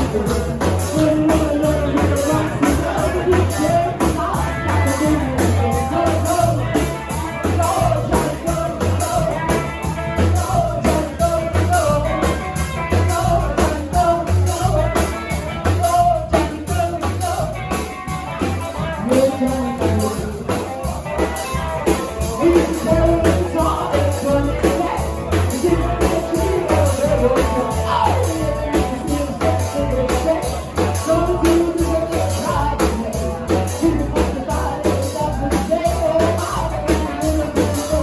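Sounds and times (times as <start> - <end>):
person singing: 0.0 - 38.0
rock band playing live: 0.0 - 38.0.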